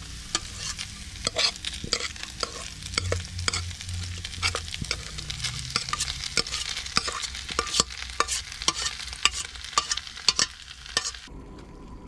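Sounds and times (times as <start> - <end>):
metal spoon scraping a pan: 0.0 - 11.3
skillet sizzling: 0.0 - 11.3.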